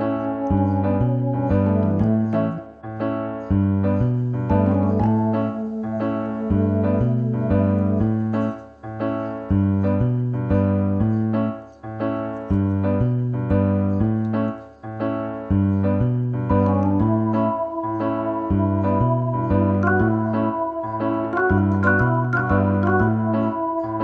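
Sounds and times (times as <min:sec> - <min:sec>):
gentle piano piece: 0:00.0 - 0:24.0.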